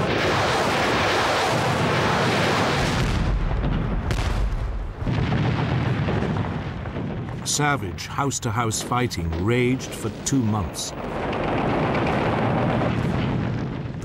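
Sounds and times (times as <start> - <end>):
deep rumble of explosions: 0.0 - 14.0
rushing rocket blast: 0.0 - 14.0.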